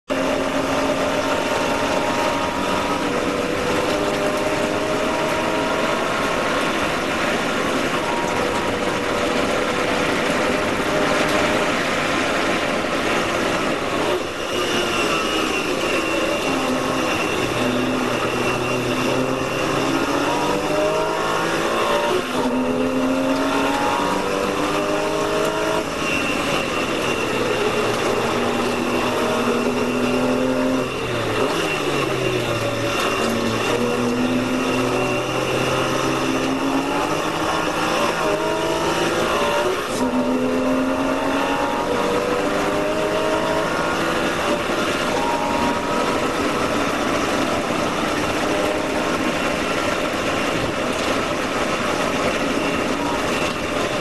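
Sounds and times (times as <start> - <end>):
race car engine revving: 0.0 - 54.0
wind and tyre noise: 0.0 - 54.0.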